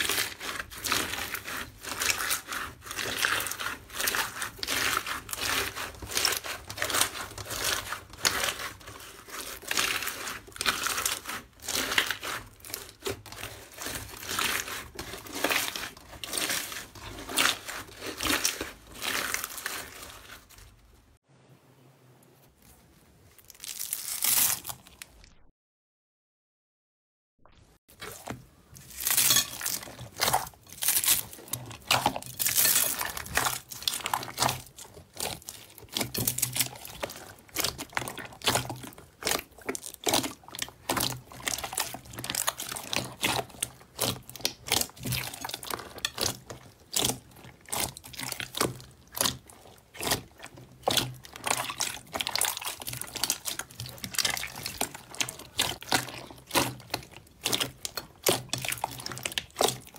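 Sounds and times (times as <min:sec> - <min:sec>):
slime squishing and crunching: 0:00.0 - 0:21.0, 0:23.3 - 0:25.2, 0:27.9 - 0:59.9.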